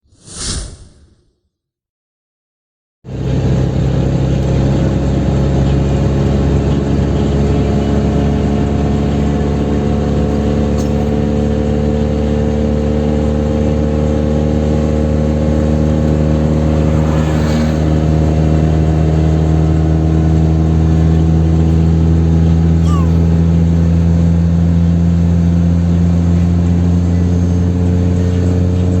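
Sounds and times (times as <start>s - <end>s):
car engine accelerating hard: 3.1s - 29.0s.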